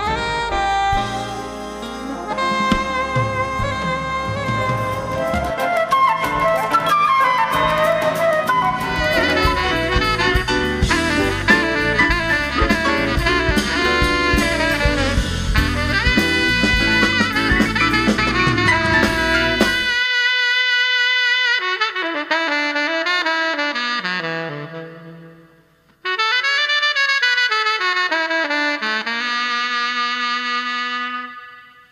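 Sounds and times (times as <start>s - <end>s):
jazz band with saxophone: 0.0s - 31.9s
solo saxophone slow line: 0.0s - 31.9s.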